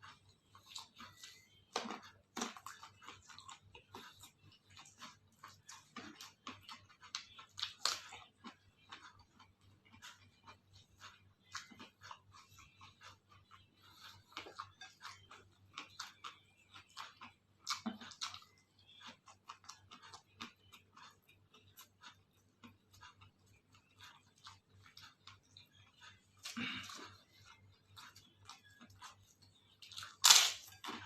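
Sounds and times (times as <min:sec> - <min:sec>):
chewing food with crunches: 0:00.0 - 0:31.0.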